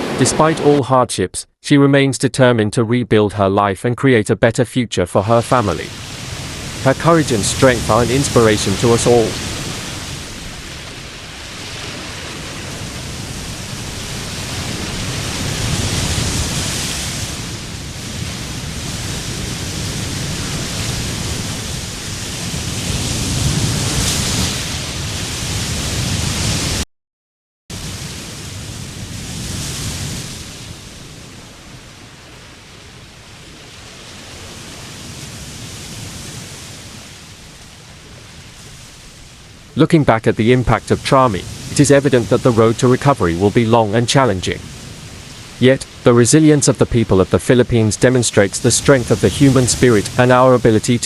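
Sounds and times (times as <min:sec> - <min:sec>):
rushing storm noise: 0:00.0 - 0:00.9, 0:05.4 - 0:26.8, 0:27.7 - 0:51.0.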